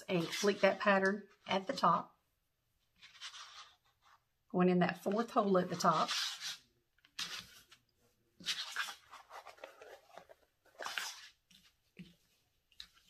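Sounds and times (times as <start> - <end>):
hands rubbing planner cover: 0.0 - 1.9, 3.0 - 4.2, 5.1 - 7.8, 8.4 - 13.0.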